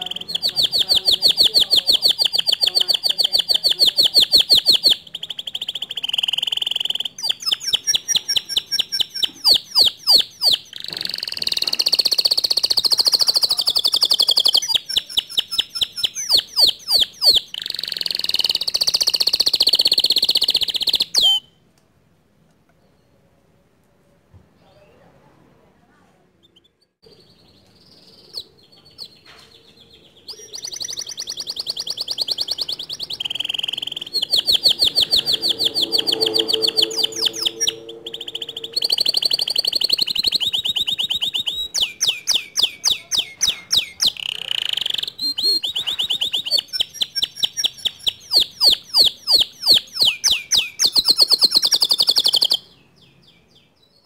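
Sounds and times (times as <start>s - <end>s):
canary singing trills: 0.0s - 21.6s, 26.4s - 54.0s
faint bird chirps: 0.0s - 21.6s, 26.4s - 54.0s.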